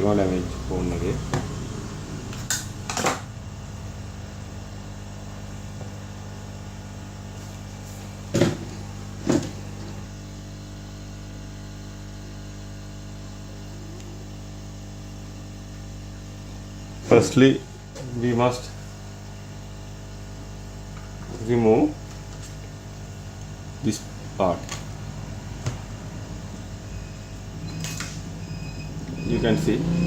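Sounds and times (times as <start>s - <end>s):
hot air gun fan hum: 0.0s - 30.0s.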